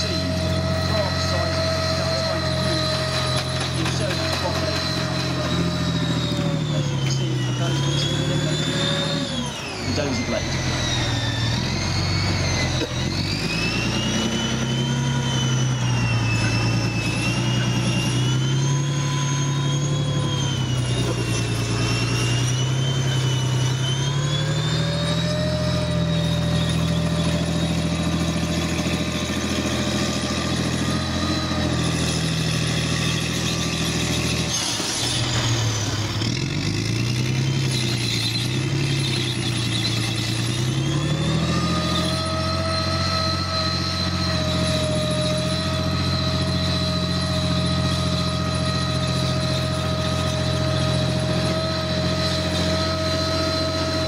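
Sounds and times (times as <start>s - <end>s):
diesel engine driving past: 0.0s - 54.0s
high whine: 0.0s - 54.0s.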